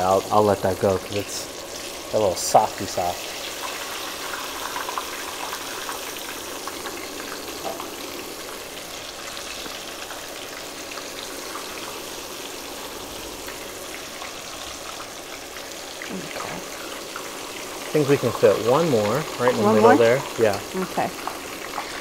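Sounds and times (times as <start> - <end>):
plantain sizzling in hot oil: 0.0 - 22.0.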